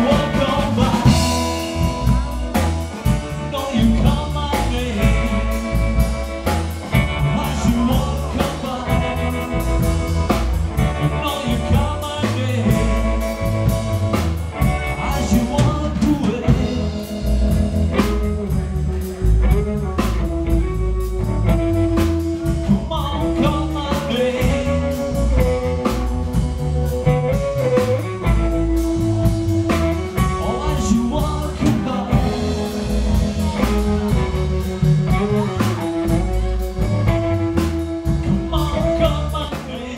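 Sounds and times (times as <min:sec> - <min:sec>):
bending lead melody: 0:00.0 - 0:39.9
live blues rock band: 0:00.0 - 0:39.9.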